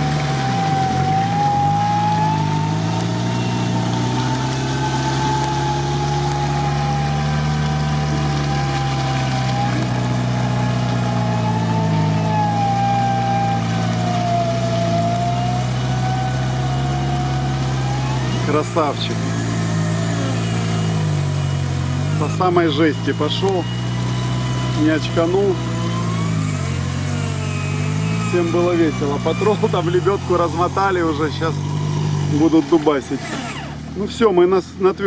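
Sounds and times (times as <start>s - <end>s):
wavering whine: 0.0s - 32.2s
off-road engine under load: 0.0s - 35.0s.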